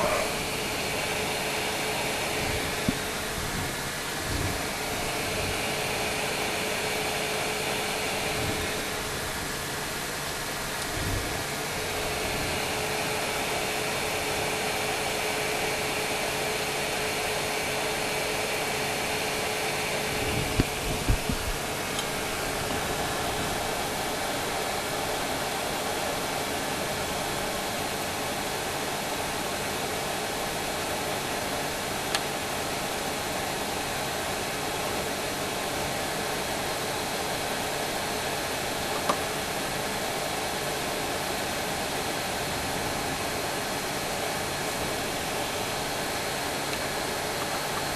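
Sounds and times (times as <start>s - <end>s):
hot air wand blowing: 0.0s - 47.9s.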